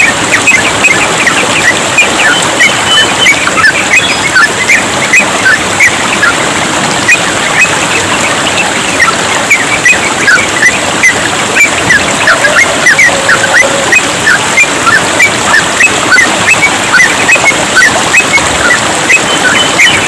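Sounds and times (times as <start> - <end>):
babbling water: 0.0 - 20.0
birds chirping: 0.0 - 20.0.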